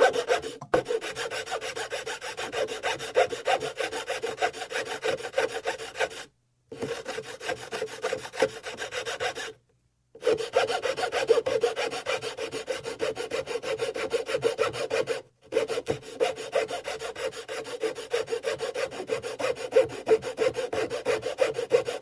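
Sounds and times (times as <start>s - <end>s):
rasp scraping over wood: 0.0s - 9.5s, 10.2s - 22.0s.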